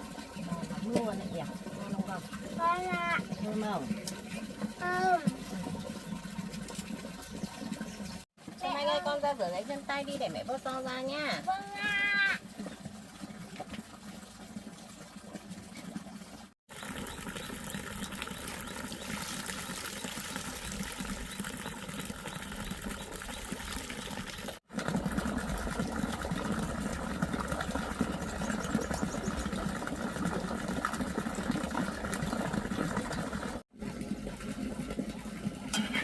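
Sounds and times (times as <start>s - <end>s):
water running and splashing: 0.0s - 36.0s.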